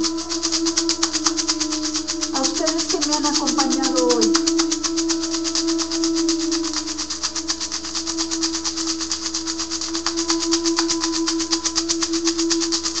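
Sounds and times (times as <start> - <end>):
hand rattle shaken: 0.0 - 13.0.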